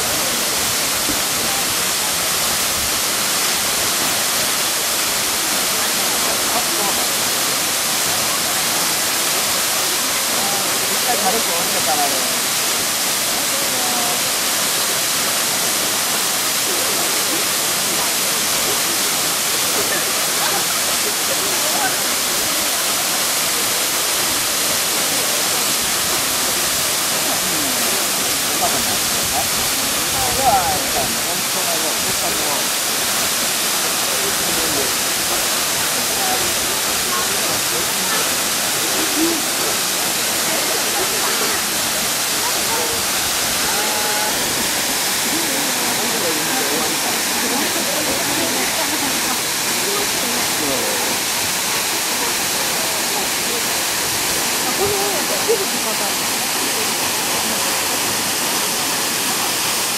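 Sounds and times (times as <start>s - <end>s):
waterfall rushing onto rock: 0.0s - 59.9s.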